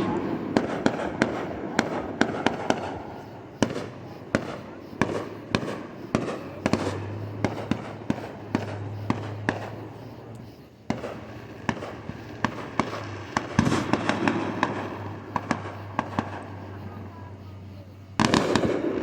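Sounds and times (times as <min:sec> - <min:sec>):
fireworks popping and banging: 0:00.0 - 0:17.4, 0:18.1 - 0:19.0
steady low hum: 0:00.0 - 0:19.0.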